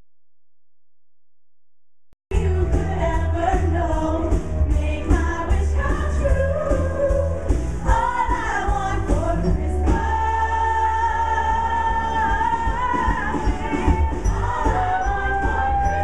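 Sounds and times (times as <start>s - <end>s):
song with band and singing: 2.3s - 16.0s.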